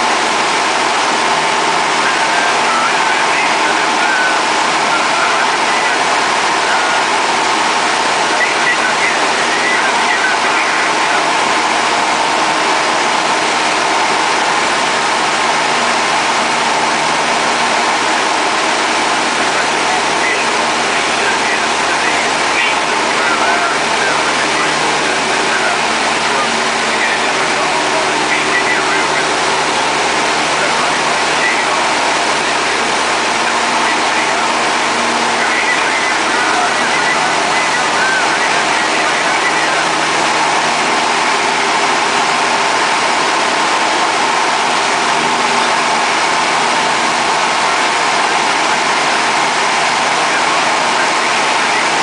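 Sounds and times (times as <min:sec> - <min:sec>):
propeller engine droning: 0:00.0 - 0:52.0.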